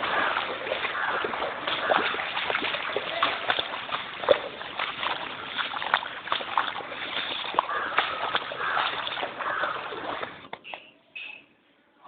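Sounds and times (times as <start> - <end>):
water splashing and sloshing: 0.0 - 10.9.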